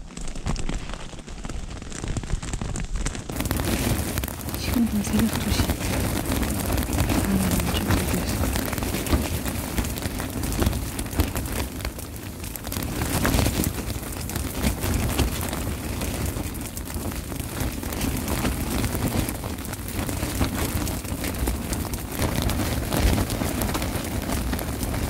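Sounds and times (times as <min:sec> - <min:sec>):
tent fabric flapping and crackling: 0:00.0 - 0:25.0
wind rumble on microphone: 0:00.1 - 0:25.0.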